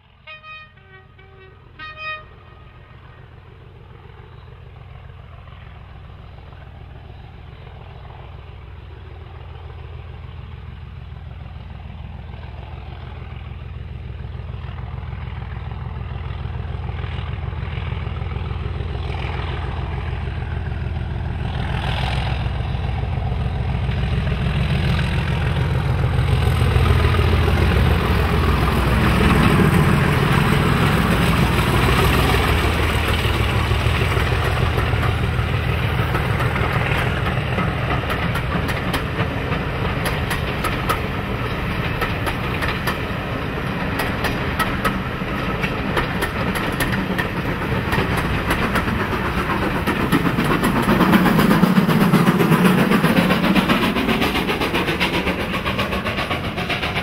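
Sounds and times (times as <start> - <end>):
diesel locomotive engine running: 0.0 - 57.0
train wheels clickety-clack: 7.6 - 57.0.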